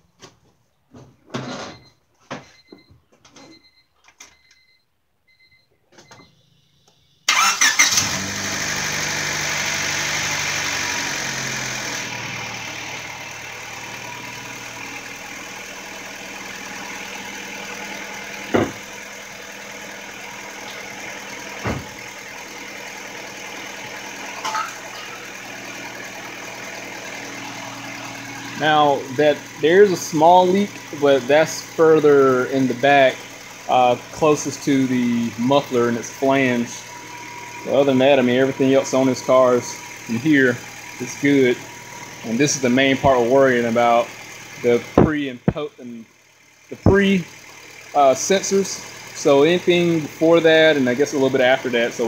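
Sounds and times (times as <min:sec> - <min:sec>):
car engine starting and idling: 0:05.3 - 0:52.0
exhaust leak: 0:07.3 - 0:19.1, 0:20.0 - 0:51.8.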